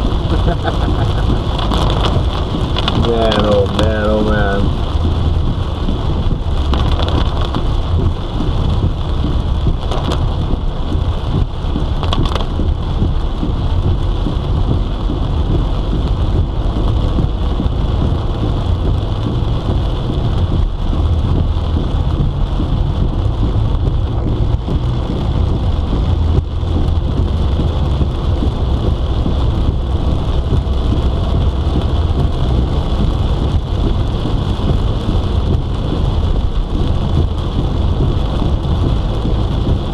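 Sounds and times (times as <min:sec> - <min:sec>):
heavy rain on car roof: 0:00.0 - 0:39.9
road and engine rumble: 0:00.0 - 0:39.9.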